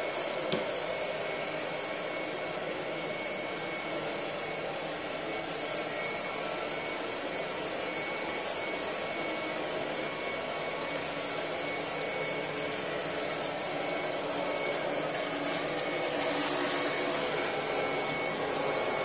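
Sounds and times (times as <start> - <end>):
robot vacuum whirring: 0.5 - 19.0.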